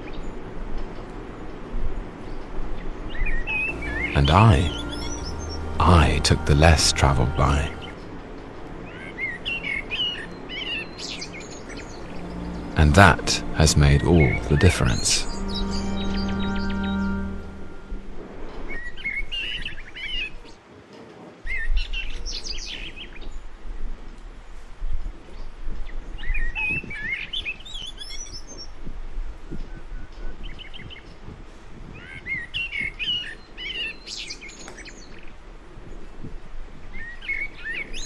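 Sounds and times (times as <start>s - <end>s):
songbirds twittering: 0.0s - 17.0s, 21.5s - 23.9s, 25.3s - 38.0s
low background noise: 0.0s - 38.0s.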